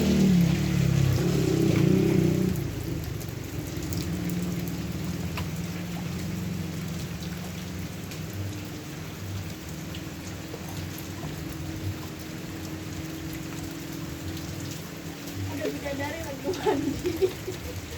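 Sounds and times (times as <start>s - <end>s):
rain falling: 0.0s - 17.9s
drops ticking: 0.4s - 17.9s.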